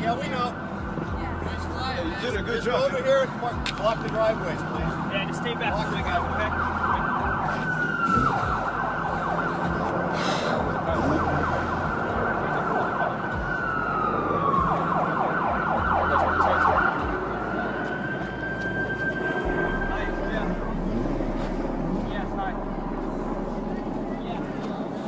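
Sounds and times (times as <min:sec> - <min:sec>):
emergency vehicle siren wailing: 0:00.0 - 0:25.0.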